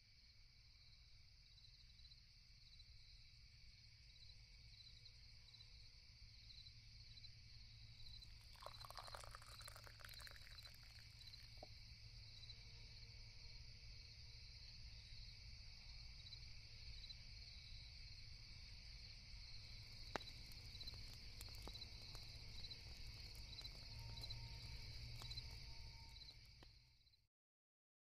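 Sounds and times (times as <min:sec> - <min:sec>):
crickets chirping: 0:00.0 - 0:27.1.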